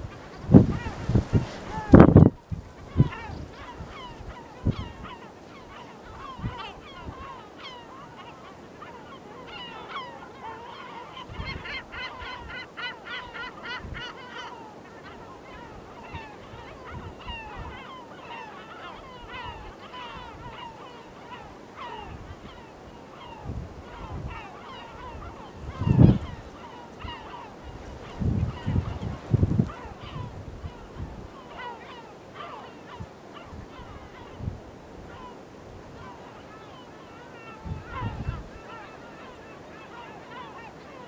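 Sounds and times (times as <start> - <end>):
gulls calling: 0.0 - 41.0.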